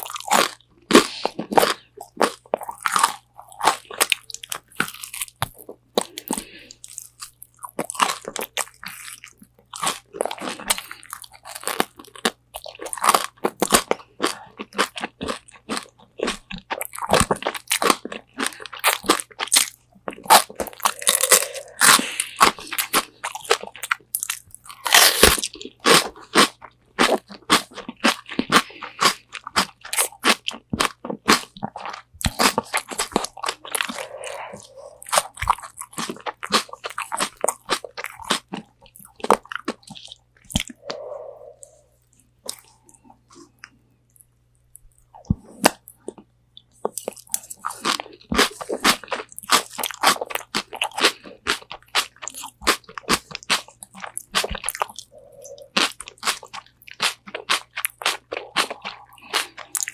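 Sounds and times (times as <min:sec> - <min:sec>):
crunching and chewing chicken: 0:00.0 - 0:59.9.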